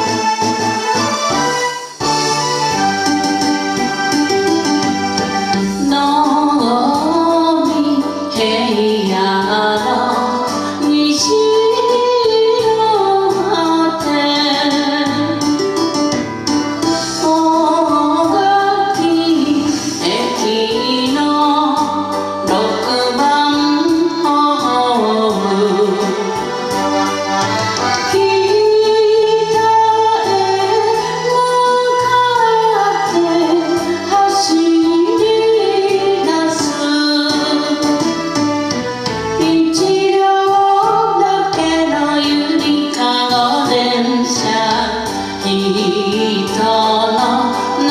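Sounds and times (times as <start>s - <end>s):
instrumental backing music: 0.0s - 47.9s
woman singing: 5.5s - 15.6s, 16.8s - 26.8s, 27.9s - 38.3s, 39.2s - 47.9s.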